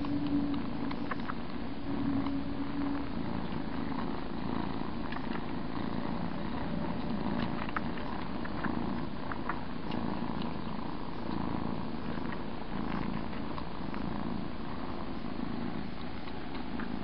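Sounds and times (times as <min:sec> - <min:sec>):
cats purring: 0:00.0 - 0:17.0.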